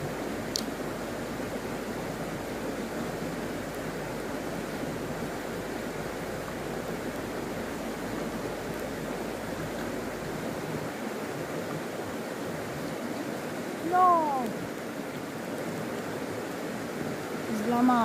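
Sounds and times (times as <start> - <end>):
stream flowing over stones: 0.0 - 18.0.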